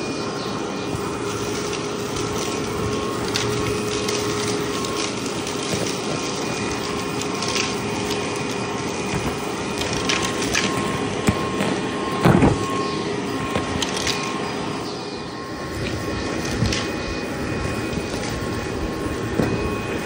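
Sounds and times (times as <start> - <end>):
vacuum cleaner whining: 0.0 - 20.0
debris clicking up hose: 1.0 - 12.7, 13.4 - 14.5, 15.7 - 20.0.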